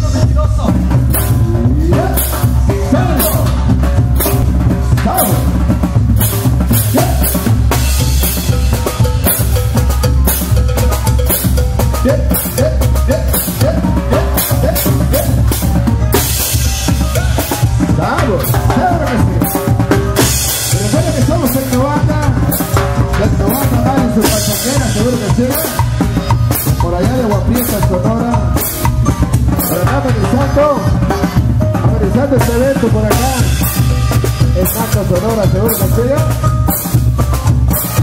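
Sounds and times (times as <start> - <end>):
drum kit beat: 0.0 - 38.0
heavy bass line: 0.0 - 38.0
pitched instrument parts: 0.0 - 38.0.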